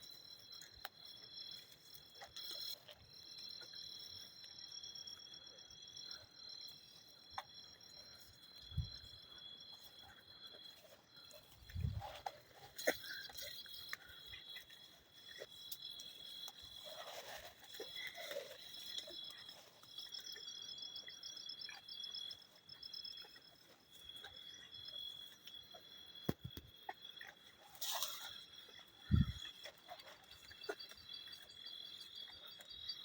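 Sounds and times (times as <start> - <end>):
insects chirring: 0.0 - 33.0
pulsing insect trill: 0.0 - 33.0.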